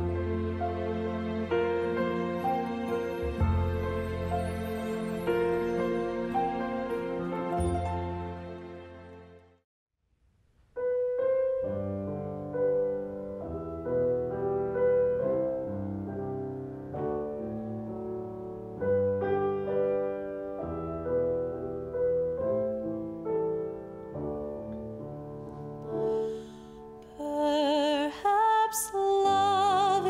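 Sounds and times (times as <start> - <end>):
grand piano playing slow chords: 0.0 - 9.5, 10.8 - 28.0.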